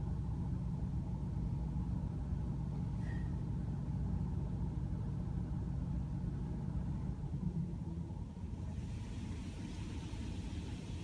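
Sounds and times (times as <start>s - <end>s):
muffled car wash machinery rumble: 0.0s - 11.0s.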